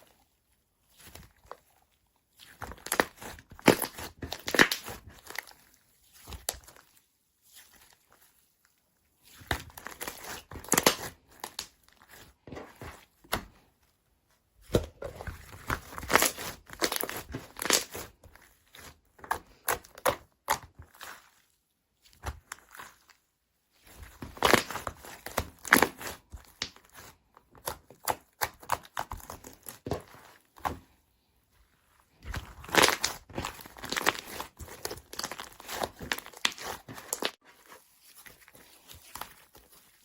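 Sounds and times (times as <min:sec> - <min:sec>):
hands squishing slime: 0:00.0 - 0:40.0.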